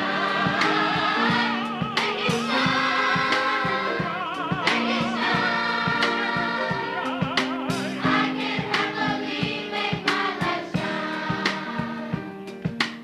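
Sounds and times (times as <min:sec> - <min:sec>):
choir singing: 0:00.0 - 0:12.2
steady beat: 0:00.0 - 0:13.0.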